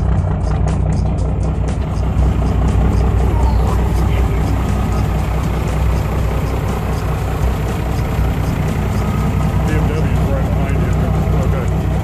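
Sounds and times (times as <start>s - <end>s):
diesel engine deep drone: 0.0s - 12.0s.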